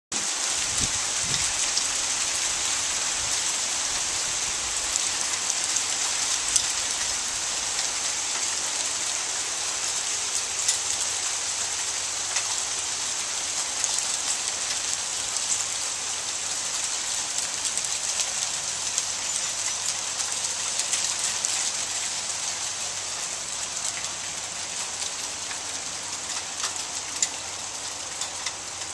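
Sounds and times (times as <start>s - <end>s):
hail striking hard surfaces: 0.2s - 28.9s.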